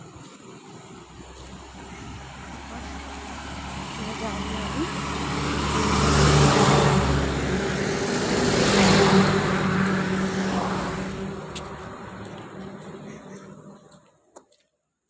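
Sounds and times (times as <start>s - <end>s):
vehicle passing on road: 0.0s - 14.4s.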